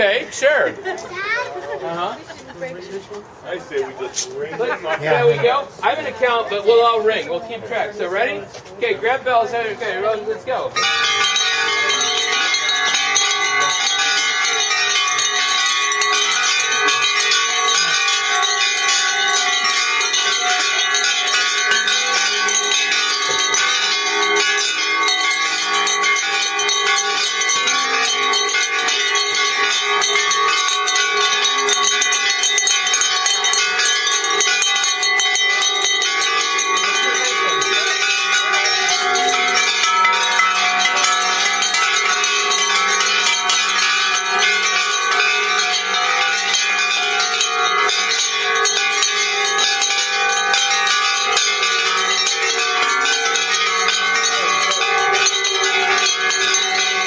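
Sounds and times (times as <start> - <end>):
many bells ringing together: 0.0 - 57.0.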